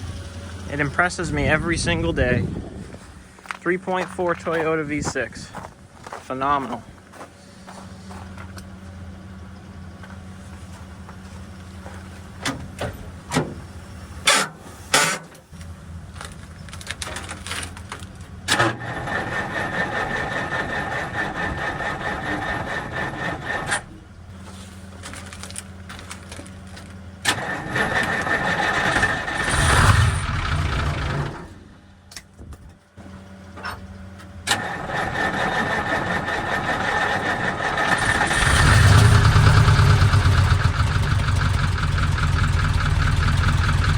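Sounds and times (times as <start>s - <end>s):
low engine hum: 0.0s - 43.9s
diesel engine cranking on starter: 7.7s - 32.2s, 33.0s - 43.9s.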